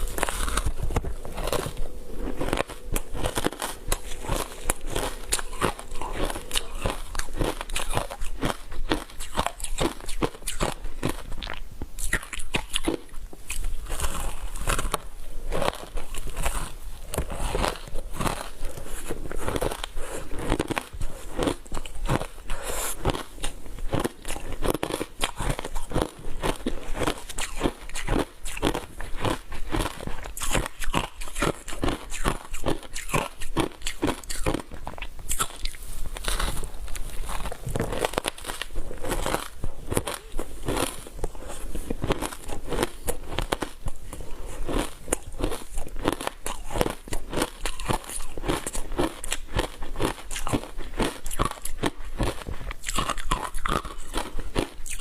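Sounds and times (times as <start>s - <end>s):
ice being chewed with crunches: 0.0s - 55.0s.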